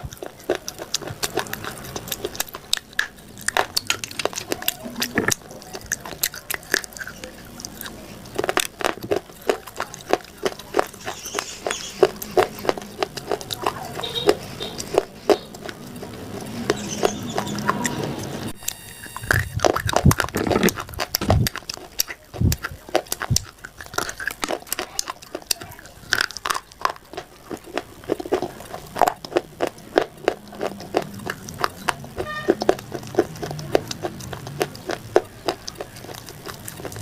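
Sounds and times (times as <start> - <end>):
person chewing crunchy food: 0.0 - 37.0.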